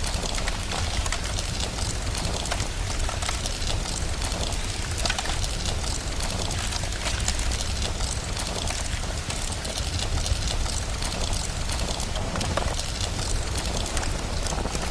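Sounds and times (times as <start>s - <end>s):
fire crackling: 0.0s - 14.9s
rain hiss: 0.0s - 14.9s.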